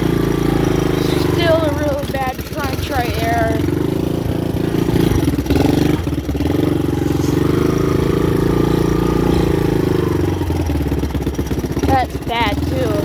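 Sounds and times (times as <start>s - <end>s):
dirt bike engine at low revs: 0.0s - 13.0s.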